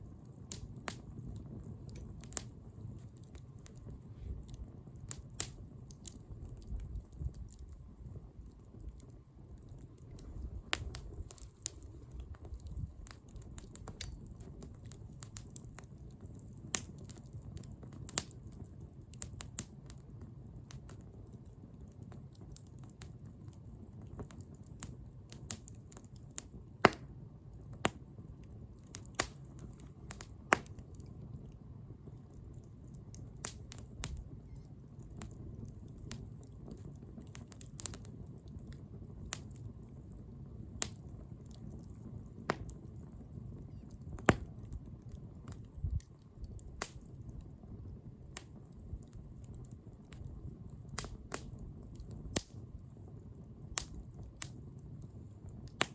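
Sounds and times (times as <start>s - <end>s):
low rumble of burning: 0.0s - 55.9s
wood fire crackling and popping: 0.0s - 55.9s.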